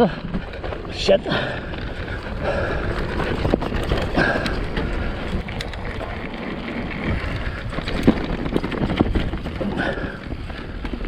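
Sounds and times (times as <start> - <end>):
bike rattling and knocking: 0.0 - 11.0
tyres rolling over dirt: 0.0 - 11.0
wind on microphone: 0.2 - 11.0.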